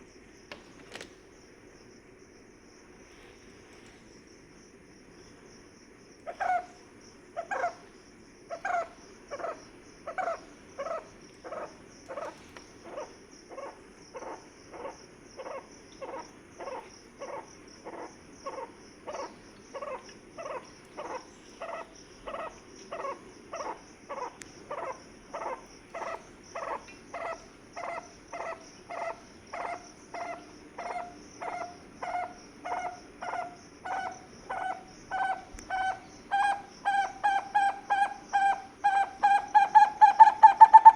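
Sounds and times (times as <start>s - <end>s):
high insect chirring: 6.3s - 40.9s.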